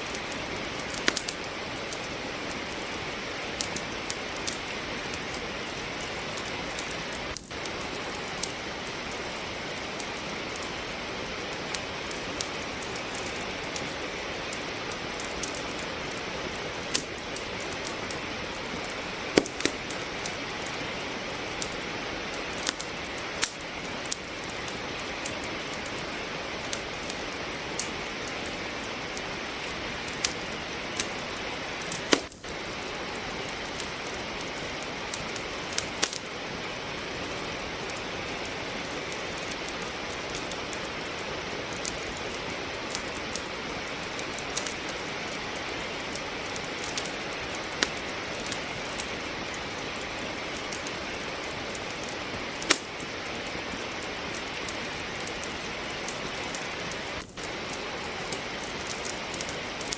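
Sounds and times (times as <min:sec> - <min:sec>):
steady rain falling: 0:00.0 - 0:59.9
wood fire crackling: 0:00.0 - 0:59.9.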